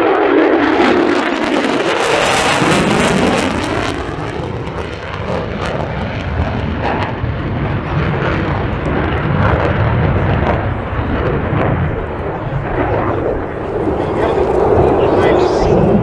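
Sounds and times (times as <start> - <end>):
fighter jet flying by: 0.0 - 16.0.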